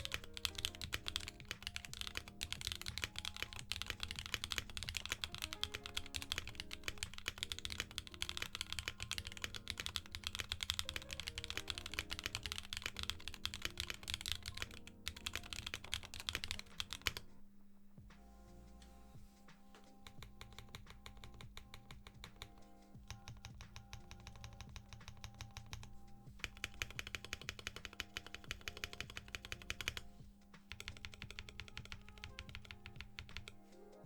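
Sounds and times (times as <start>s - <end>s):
fast typing on mechanical keyboard: 0.0s - 17.4s, 19.7s - 34.0s.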